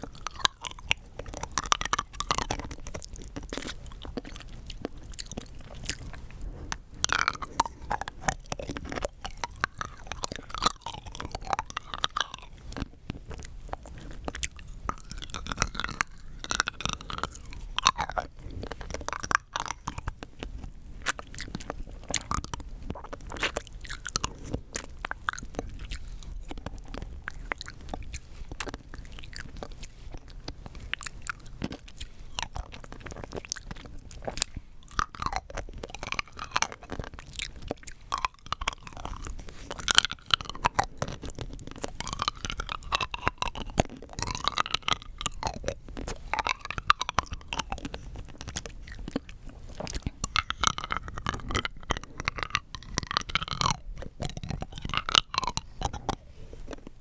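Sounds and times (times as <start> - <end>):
hard candy crunching: 0.0 - 57.0.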